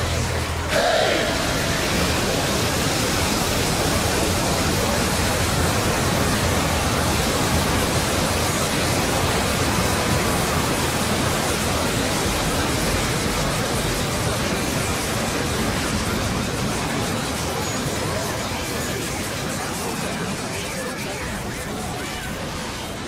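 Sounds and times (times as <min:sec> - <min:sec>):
dense wall of overlapping audio: 0:00.0 - 0:23.0.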